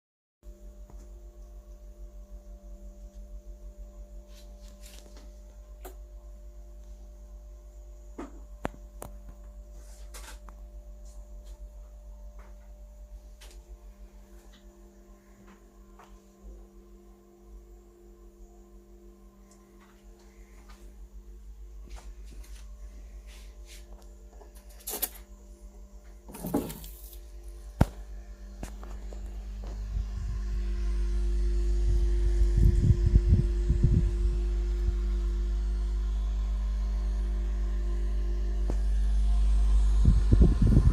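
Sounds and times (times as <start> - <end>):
fan motor humming: 0.5 - 40.9.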